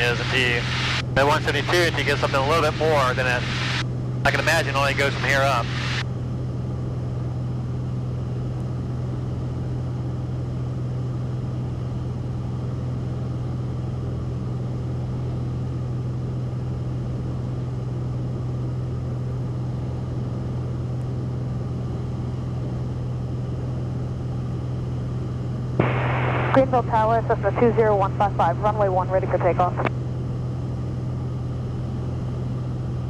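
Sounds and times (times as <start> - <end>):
airplane engine and propeller drone: 0.0 - 33.0.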